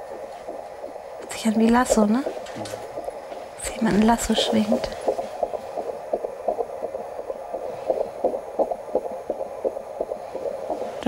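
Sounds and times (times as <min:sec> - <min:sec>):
fetal heartbeat whooshing pulse: 0:00.0 - 0:11.0.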